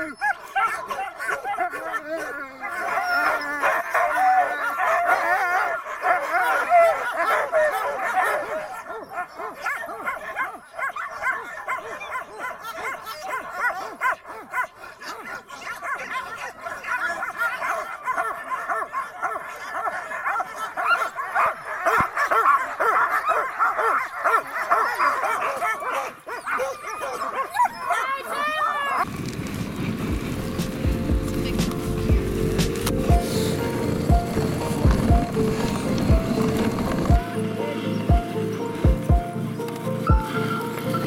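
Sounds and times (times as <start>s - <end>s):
sled dogs barking and yipping: 0.0s - 41.0s.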